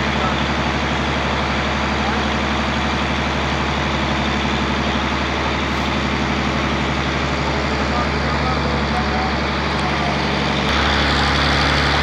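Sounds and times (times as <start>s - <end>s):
heavy engine droning: 0.0s - 12.0s.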